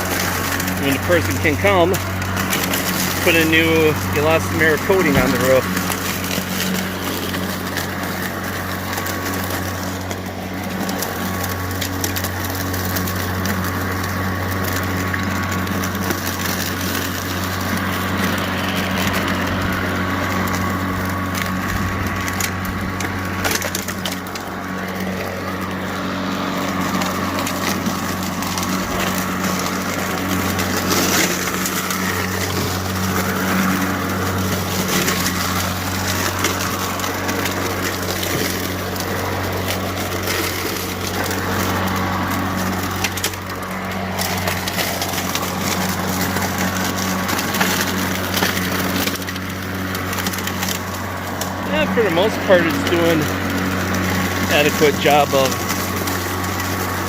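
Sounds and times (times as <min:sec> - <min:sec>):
dry leaves crunching: 0:00.0 - 0:57.0
lawn mower humming: 0:00.0 - 0:57.0.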